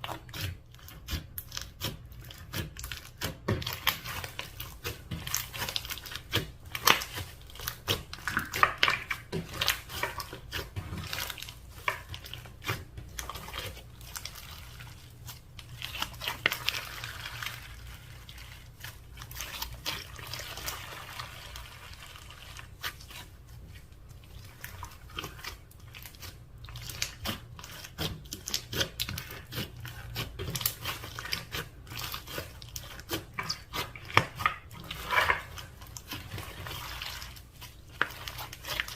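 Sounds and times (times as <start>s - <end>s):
slime squelching and popping: 0.0s - 38.9s.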